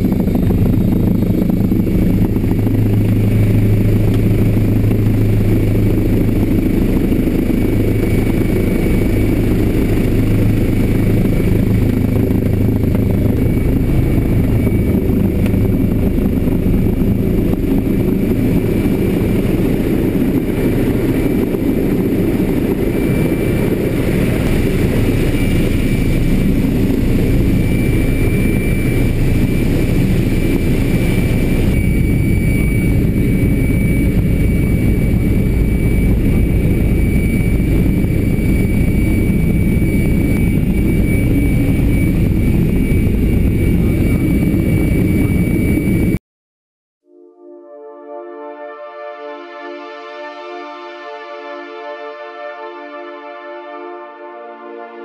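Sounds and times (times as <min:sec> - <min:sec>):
low rumbling spacecraft hum: 0:00.0 - 0:46.2.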